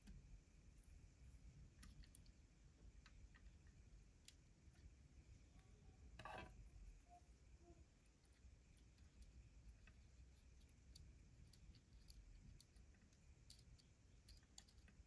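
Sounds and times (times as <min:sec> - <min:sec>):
faint clicks of plastic parts: 0:00.0 - 0:00.3, 0:01.6 - 0:06.7, 0:08.2 - 0:15.0.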